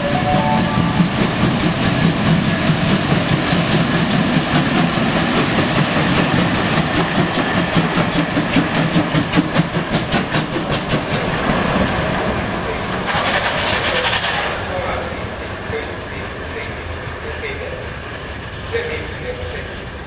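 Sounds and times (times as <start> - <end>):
locomotive rolling rumble: 0.0 - 20.0.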